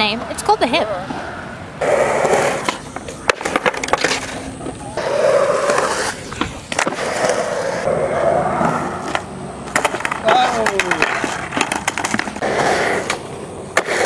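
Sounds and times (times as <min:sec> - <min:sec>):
skateboard wheels rolling on concrete: 0:00.0 - 0:14.0
skateboard clacking on concrete: 0:01.8 - 0:08.0, 0:08.6 - 0:14.0.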